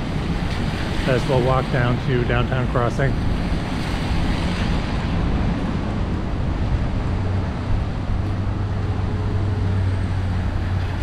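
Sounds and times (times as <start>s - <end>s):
low engine hum: 0.0s - 11.0s
traffic on wet pavement: 0.0s - 11.0s.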